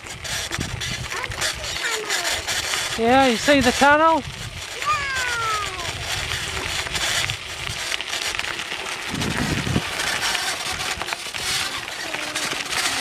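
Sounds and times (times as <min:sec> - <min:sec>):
wind buffeting microphone: 0:00.0 - 0:01.8, 0:02.4 - 0:11.9
bicycle tyres crunching on gravel: 0:00.0 - 0:13.0.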